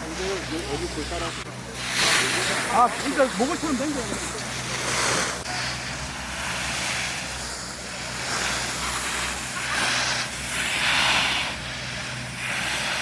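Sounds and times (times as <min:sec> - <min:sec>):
skis scraping over snow: 0:00.0 - 0:13.0.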